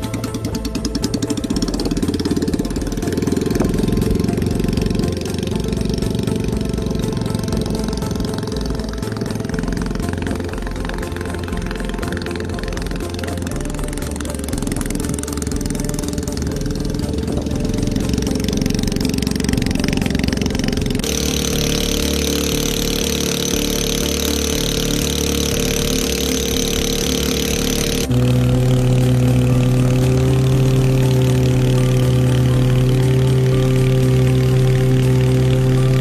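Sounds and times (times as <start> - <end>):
scooter engine running: 0.0 - 36.0.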